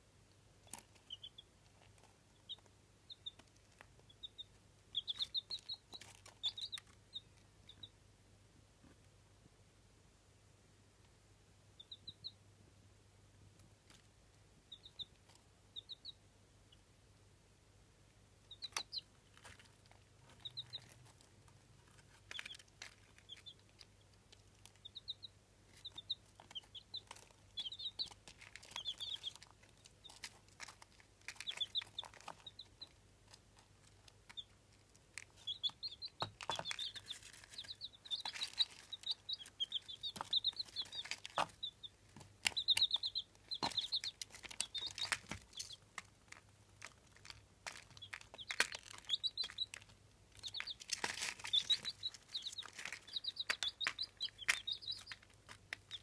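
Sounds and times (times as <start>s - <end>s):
chicks peeping: 0.3s - 8.2s, 11.0s - 17.0s, 18.2s - 56.0s.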